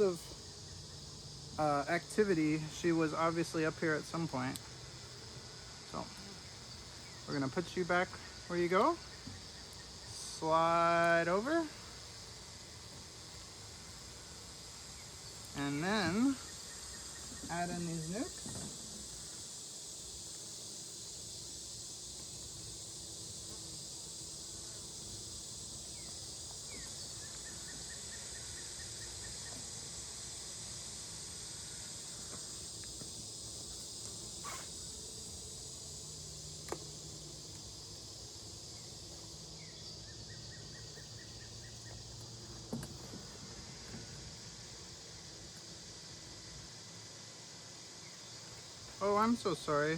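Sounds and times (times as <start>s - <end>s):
insects chorus: 0.0s - 49.9s.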